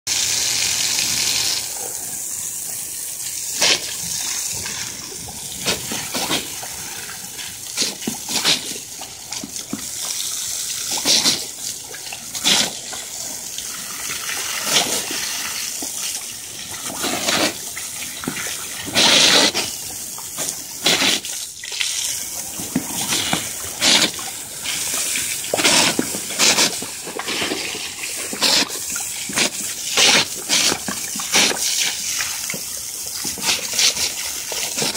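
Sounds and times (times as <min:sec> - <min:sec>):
hose spray hissing on concrete: 0:00.1 - 0:34.9
dogs snapping at water splashes: 0:03.4 - 0:34.9.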